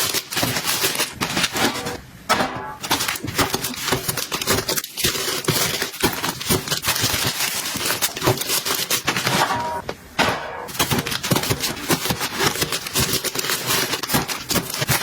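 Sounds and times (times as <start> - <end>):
items tapping and scraping: 0.0 - 15.0.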